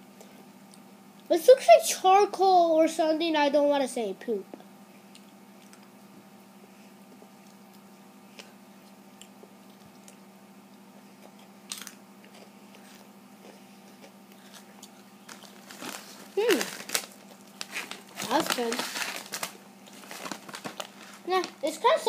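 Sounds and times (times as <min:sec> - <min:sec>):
faint steady hum: 0:00.0 - 0:22.0
quiet chewing with crunches: 0:00.1 - 0:01.3, 0:04.6 - 0:21.3.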